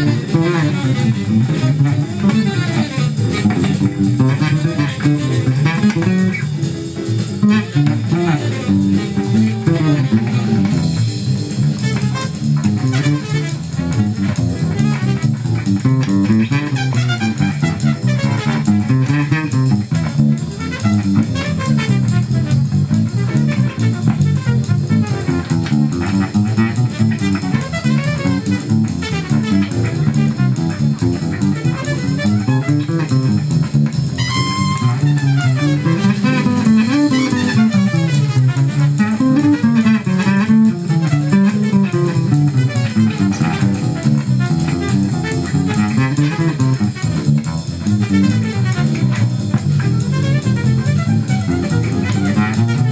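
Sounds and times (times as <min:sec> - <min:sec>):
electric bass playing jazz line: 0:00.0 - 0:52.9.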